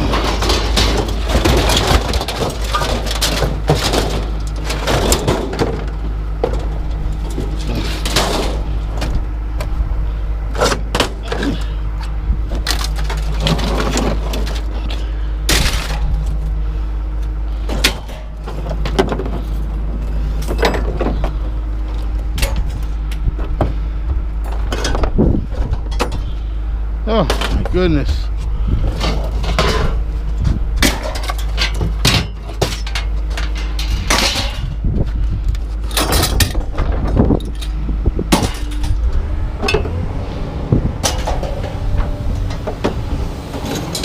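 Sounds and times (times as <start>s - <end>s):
scrap metal clanking and banging: 0.0s - 44.0s
steady engine hum: 0.0s - 44.0s.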